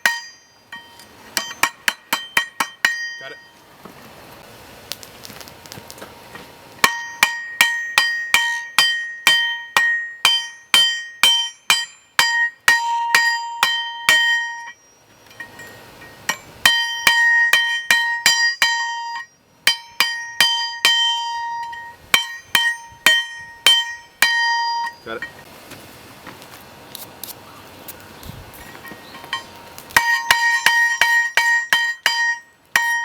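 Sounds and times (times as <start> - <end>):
bell-like ring of steel plate: 0.0 - 3.6, 6.8 - 25.4, 28.7 - 33.0.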